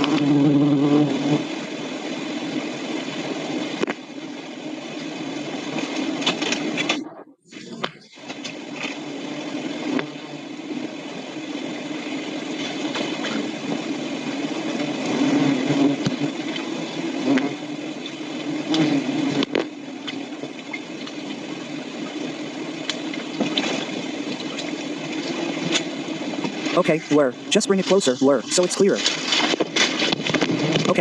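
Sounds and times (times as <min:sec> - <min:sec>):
bee swarm buzzing: 0:00.0 - 0:31.0.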